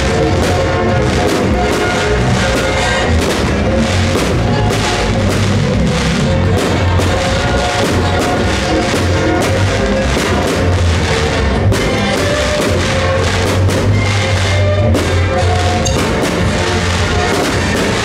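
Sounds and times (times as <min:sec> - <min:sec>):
music with drum beat: 0:00.0 - 0:18.0.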